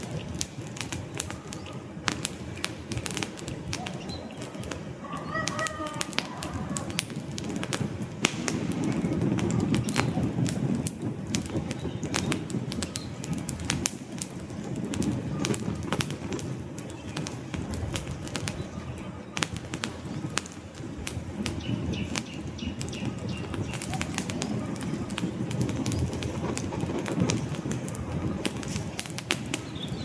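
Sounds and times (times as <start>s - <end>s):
low rumble of flames: 0.0s - 30.0s
wood fire crackling and popping: 0.0s - 30.0s.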